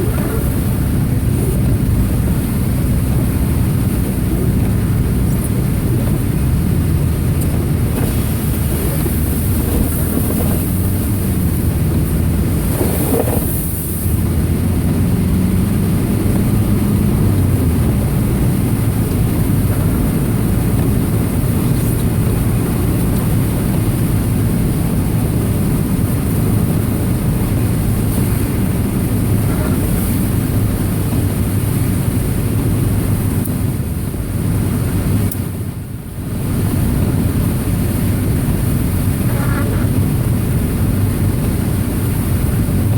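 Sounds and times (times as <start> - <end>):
car engine hum: 0.0 - 42.9
road noise: 0.0 - 42.9.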